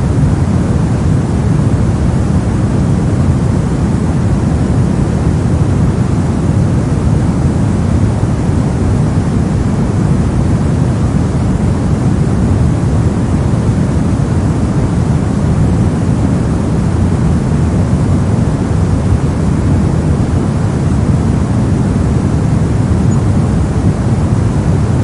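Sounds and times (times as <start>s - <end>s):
deep rumbling hiss noise: 0.0s - 25.0s.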